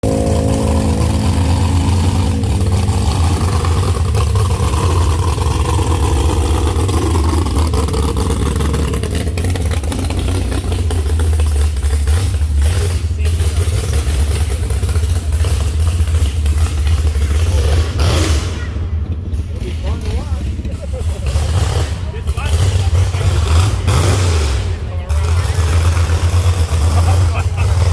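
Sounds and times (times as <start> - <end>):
truck engine running: 0.0 - 27.9.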